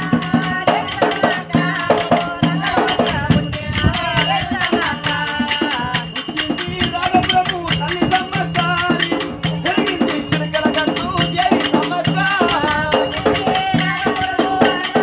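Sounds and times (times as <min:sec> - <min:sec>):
fast percussion beat: 0:00.0 - 0:15.0.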